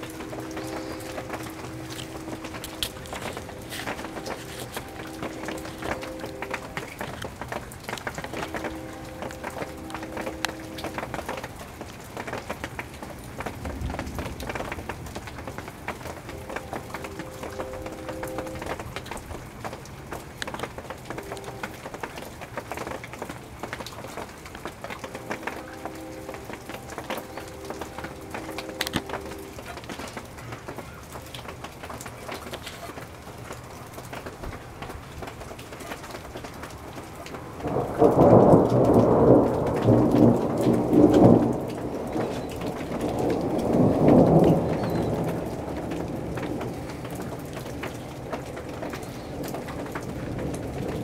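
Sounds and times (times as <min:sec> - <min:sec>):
thunder rumbling: 0:00.0 - 0:19.8, 0:20.5 - 0:30.4, 0:36.8 - 0:51.0
steady rain falling: 0:00.0 - 0:51.0
water drips: 0:00.0 - 0:51.0.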